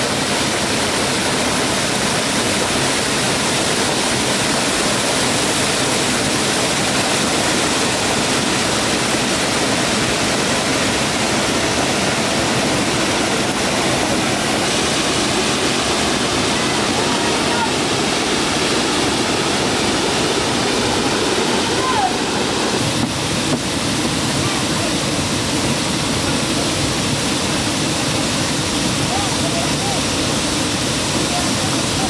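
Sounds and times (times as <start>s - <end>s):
rush of flowing water: 0.0s - 32.0s.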